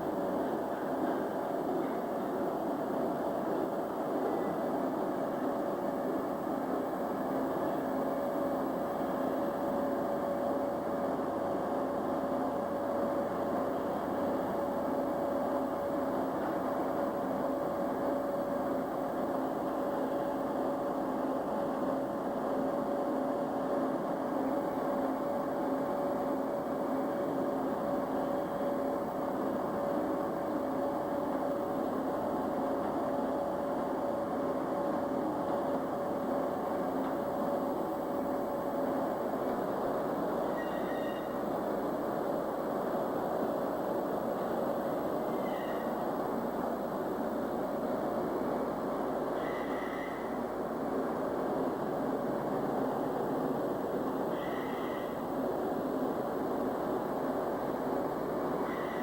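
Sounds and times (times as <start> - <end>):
machinery humming: 0.0 - 59.0.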